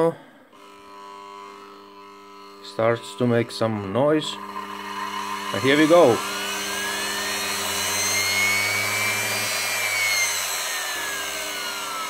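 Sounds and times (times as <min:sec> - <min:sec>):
vacuum cleaner motor whine: 0:00.6 - 0:12.0.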